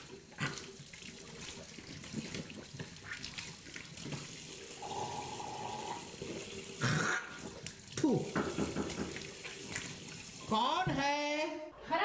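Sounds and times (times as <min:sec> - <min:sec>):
tap water running into sink: 0:00.0 - 0:11.0
water splashing: 0:00.0 - 0:11.0.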